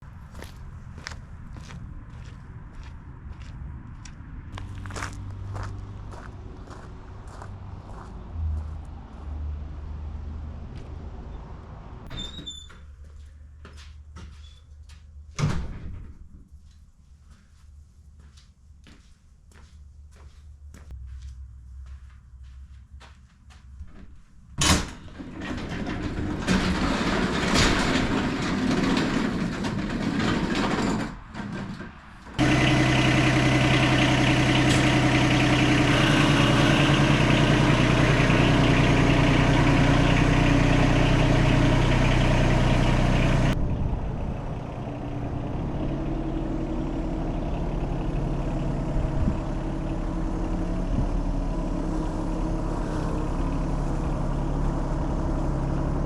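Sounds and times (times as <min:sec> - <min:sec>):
diesel tractor engine: 0:00.0 - 0:15.6, 0:24.4 - 0:56.0.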